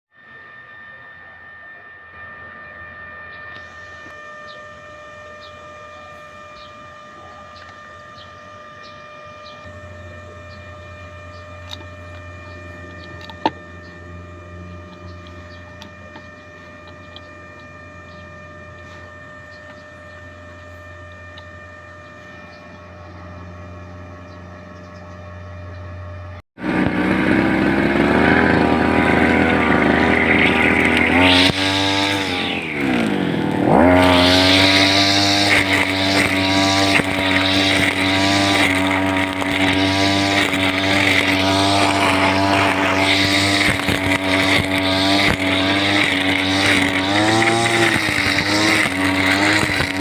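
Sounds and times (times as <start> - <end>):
machine motor humming and whining: 0.1 - 50.0.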